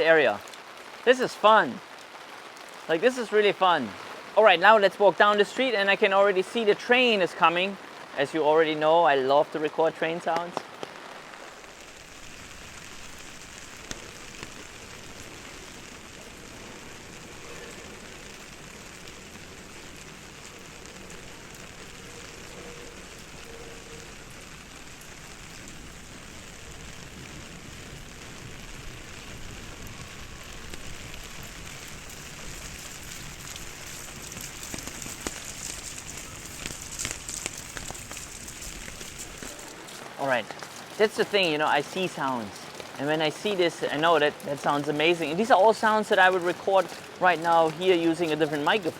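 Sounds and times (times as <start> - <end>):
raindrops ticking on umbrella: 0.0 - 48.9
steady rain falling: 0.0 - 48.9.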